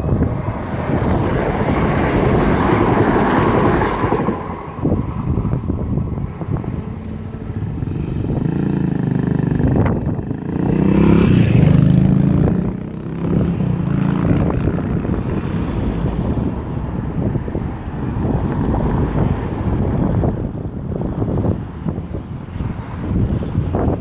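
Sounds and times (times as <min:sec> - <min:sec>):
vehicle engines accelerating: 0:00.0 - 0:24.0.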